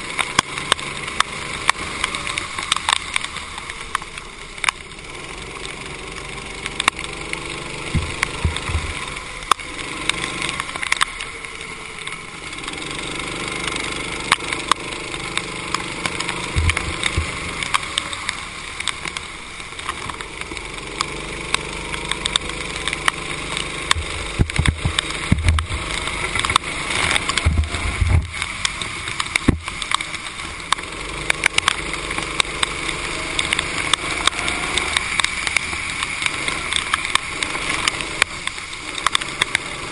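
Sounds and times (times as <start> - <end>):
kart engine revving: 0.0 - 39.9
water spray hiss: 0.0 - 39.9
sharp clicks: 0.1 - 39.9.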